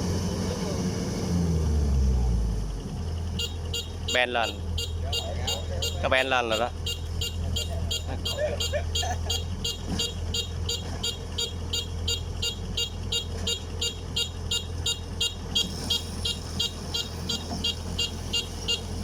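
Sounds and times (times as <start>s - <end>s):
diesel engine running: 0.0s - 19.0s
short high warning beeps: 3.3s - 19.0s.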